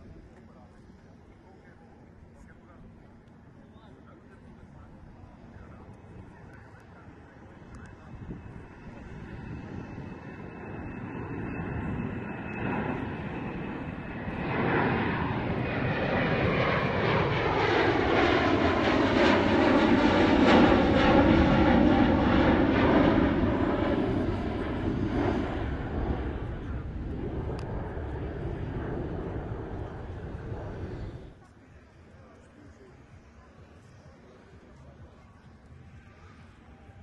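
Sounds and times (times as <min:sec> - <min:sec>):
jet aircraft flying overhead: 0:00.0 - 0:37.0.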